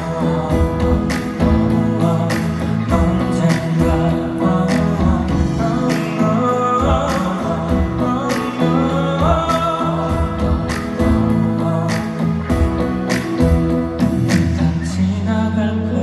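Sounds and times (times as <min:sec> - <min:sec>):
guitar: 0:00.0 - 0:16.0
live band playing slow ballad: 0:00.0 - 0:16.0.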